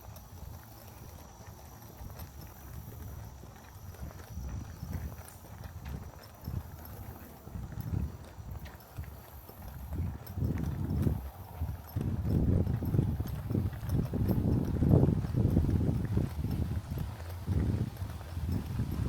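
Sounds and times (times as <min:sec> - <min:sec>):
footsteps on a trail: 0:00.0 - 0:19.0.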